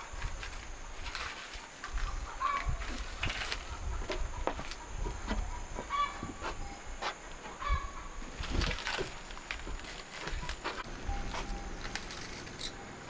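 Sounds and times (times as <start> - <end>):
chickens clucking: 1.4 - 8.8, 9.6 - 13.0.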